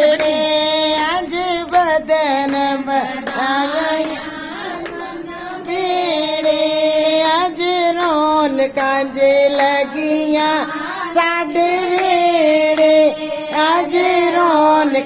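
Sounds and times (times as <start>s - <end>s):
hands clapping: 0.0s - 15.0s
women singing folk song: 0.0s - 15.0s.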